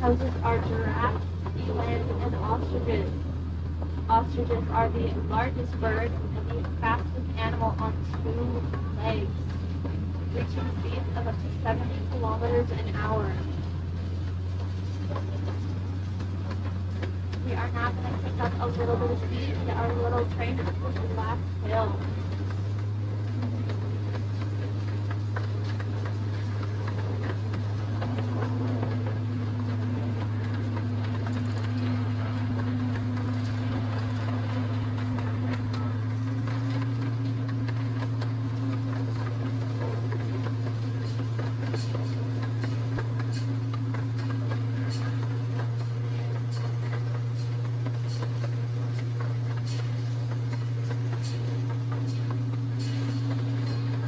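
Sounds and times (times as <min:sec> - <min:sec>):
faint irregular clicks: 0:00.0 - 0:54.0
miniature train engine drone: 0:00.0 - 0:54.0.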